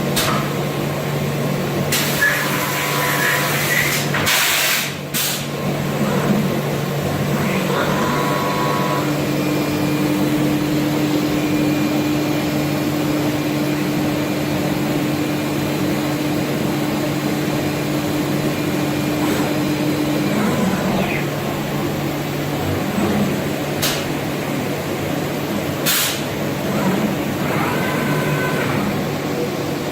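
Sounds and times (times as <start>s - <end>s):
machine mechanical hum: 0.0s - 29.9s.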